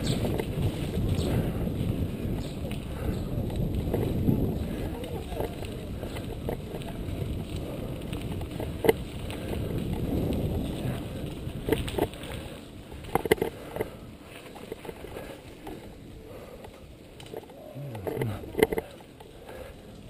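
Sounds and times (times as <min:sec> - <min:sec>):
wind rushing over microphone: 0:00.0 - 0:16.2
rolling tyre noise: 0:00.0 - 0:20.0.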